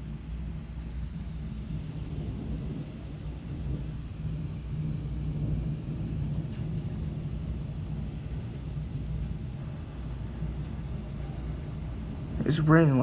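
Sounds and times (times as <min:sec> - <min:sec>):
distant thunder rumbling: 0:00.0 - 0:13.0.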